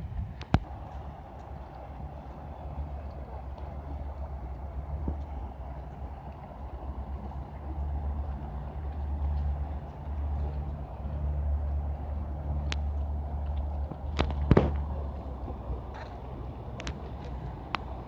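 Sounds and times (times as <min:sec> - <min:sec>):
boat engine drone: 0:00.0 - 0:18.0.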